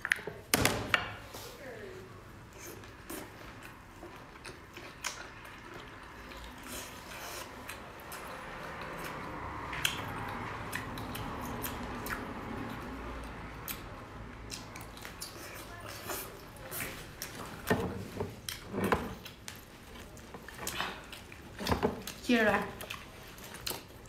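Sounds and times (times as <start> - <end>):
wet chewing and lip-smacking: 2.5 - 17.7, 18.3 - 24.0.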